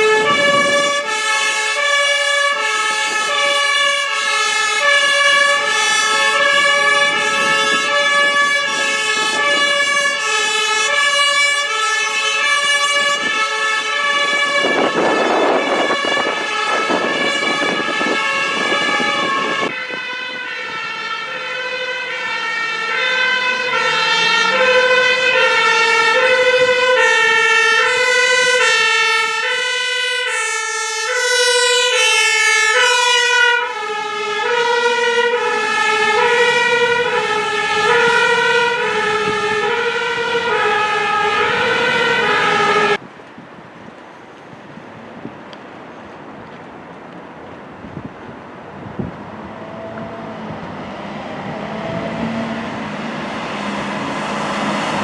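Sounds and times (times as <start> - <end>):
fire engine two-tone siren: 0.0 - 43.0, 47.8 - 55.0
vehicle passing rush: 0.0 - 43.0, 47.6 - 55.0.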